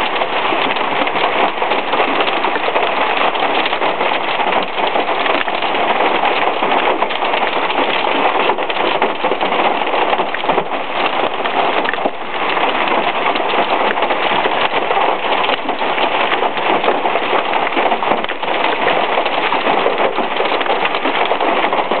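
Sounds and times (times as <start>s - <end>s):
heavy rain and hail pelting: 0.0s - 22.0s.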